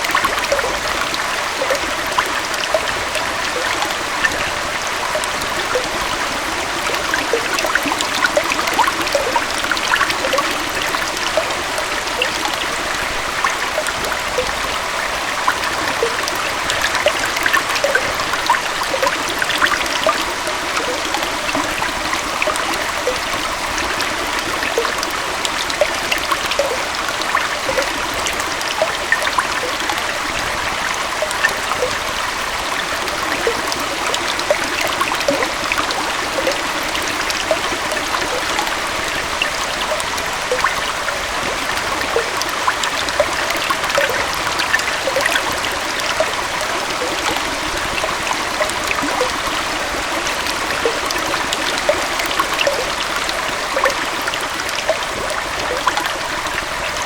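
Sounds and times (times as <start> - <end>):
waterfall and stream flowing: 0.0 - 57.0.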